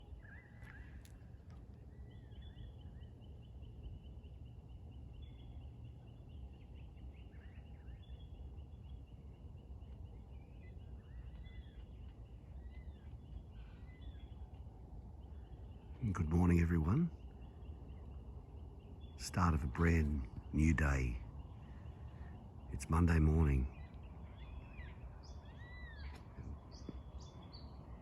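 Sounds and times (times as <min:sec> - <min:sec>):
bird calls: 0:00.0 - 0:28.0.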